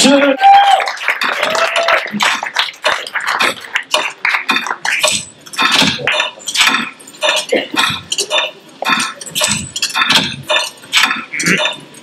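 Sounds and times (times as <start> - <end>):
audience voices murmuring: 0.0 - 9.6
sharp clicks and knocks: 2.3 - 12.0.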